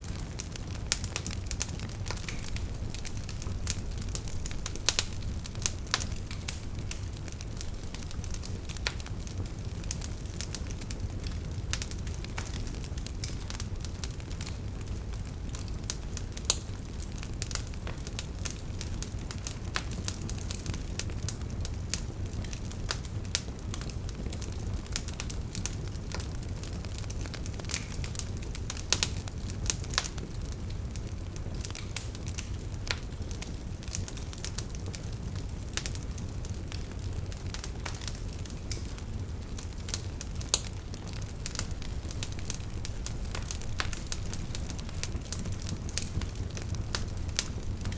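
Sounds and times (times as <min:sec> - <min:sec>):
campfire crackling and popping: 0:00.0 - 0:47.9
low rumble of flames: 0:00.0 - 0:47.9.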